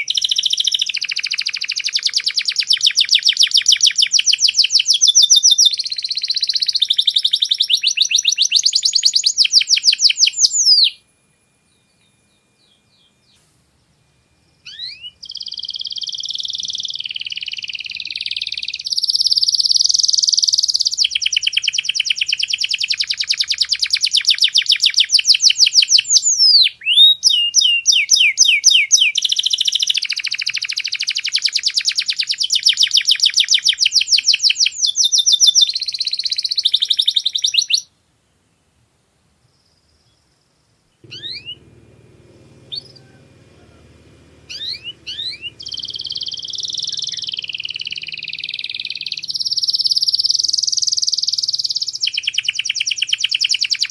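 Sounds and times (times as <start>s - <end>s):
canary singing: 0.0s - 37.9s, 41.0s - 53.9s.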